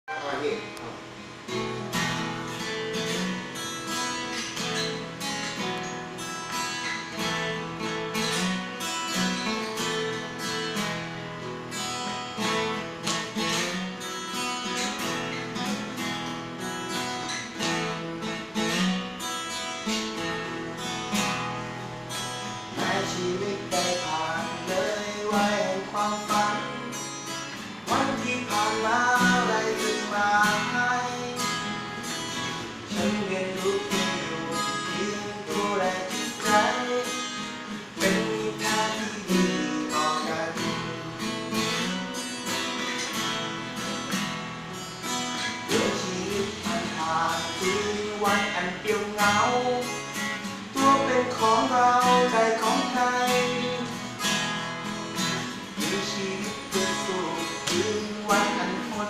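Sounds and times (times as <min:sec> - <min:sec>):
acoustic guitar strummed and picked: 0:00.1 - 0:59.0.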